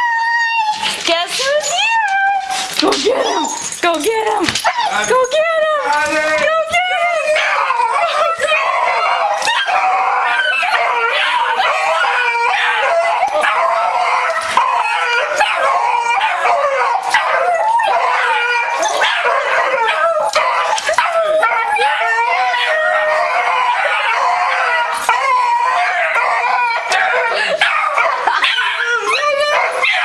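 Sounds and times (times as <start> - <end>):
dogs whining and howling: 0.0 - 30.0.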